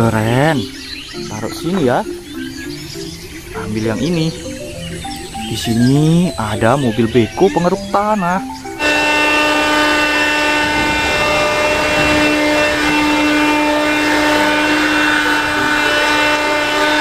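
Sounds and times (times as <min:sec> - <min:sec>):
excavator engine and hydraulics humming: 0:00.0 - 0:17.0.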